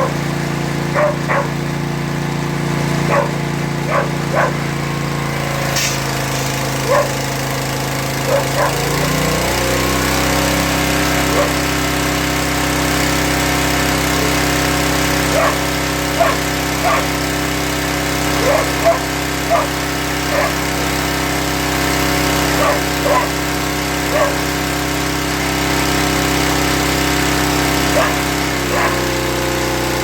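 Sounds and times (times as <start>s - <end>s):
small petrol engine running: 0.0s - 30.0s.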